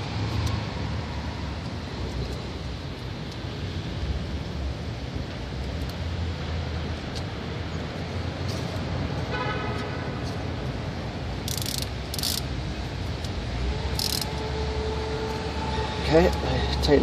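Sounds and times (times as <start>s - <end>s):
background traffic noise: 0.0s - 17.0s.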